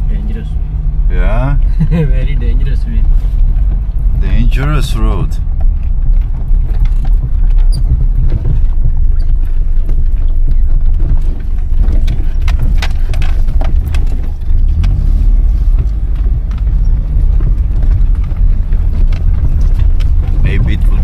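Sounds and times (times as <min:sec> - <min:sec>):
car engine and tyres rumbling: 0:00.0 - 0:21.0
car knocks and rattles: 0:00.0 - 0:21.0.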